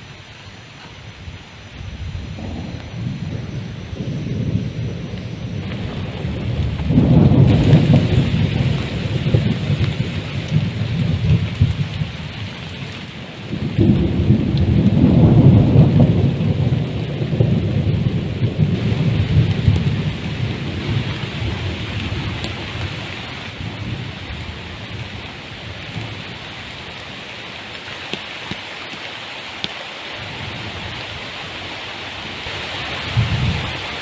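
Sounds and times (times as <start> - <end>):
heavy rain: 0.0 - 34.0
thunder rolling: 1.1 - 27.1, 32.4 - 34.0.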